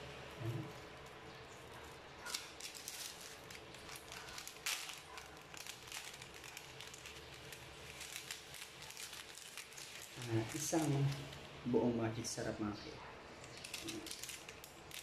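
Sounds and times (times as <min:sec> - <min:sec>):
plastic sachets crinkling and tearing: 0:00.7 - 0:11.6, 0:13.4 - 0:15.0.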